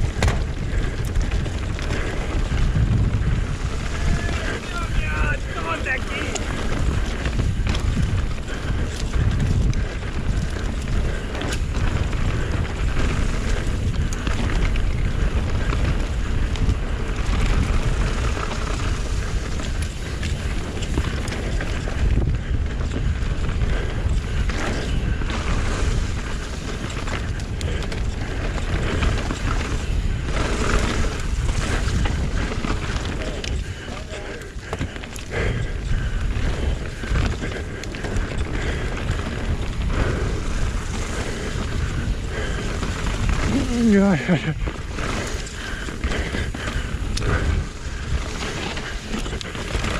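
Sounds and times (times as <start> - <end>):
bike knocks and rattles: 0.0 - 4.9, 6.3 - 49.9
wind buffeting microphone: 0.0 - 49.9.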